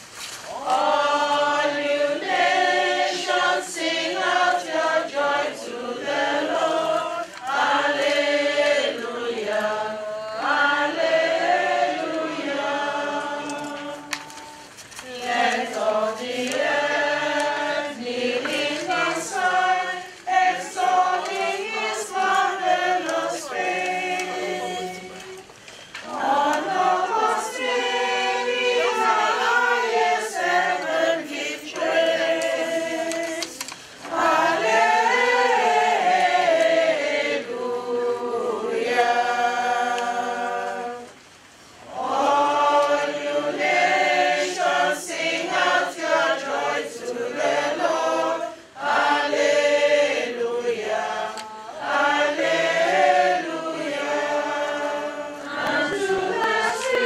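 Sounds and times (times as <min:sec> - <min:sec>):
choir singing: 0:00.0 - 0:41.2, 0:41.8 - 0:57.0.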